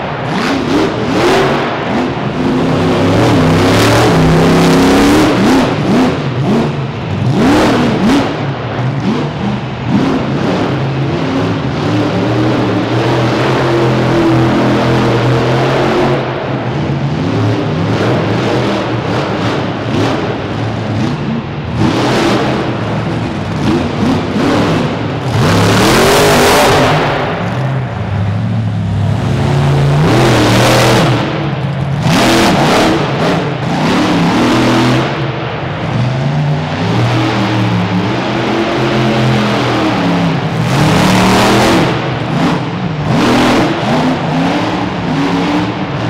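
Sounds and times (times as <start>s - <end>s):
monster truck engines revving: 0.0s - 46.0s.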